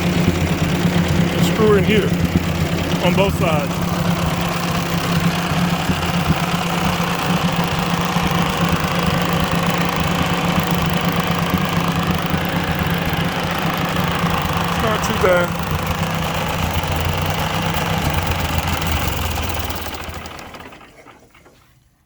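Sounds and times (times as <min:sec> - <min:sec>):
tractor engine idling: 0:00.0 - 0:21.5.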